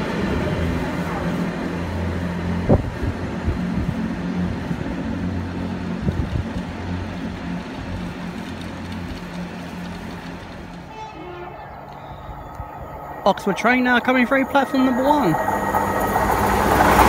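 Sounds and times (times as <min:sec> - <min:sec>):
diesel train engines droning: 0:00.0 - 0:17.0.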